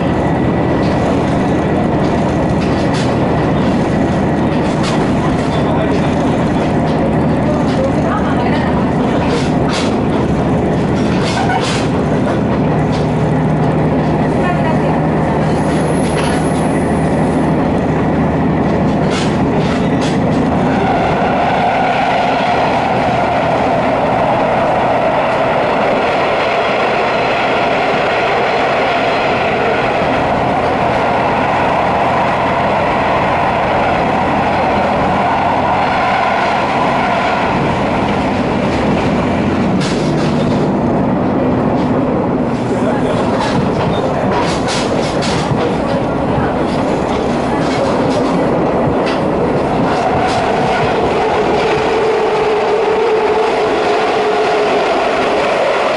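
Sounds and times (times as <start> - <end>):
hollow rushing drone in tunnel: 0.0 - 55.9
train wheels clicking over rail joints: 0.0 - 55.9.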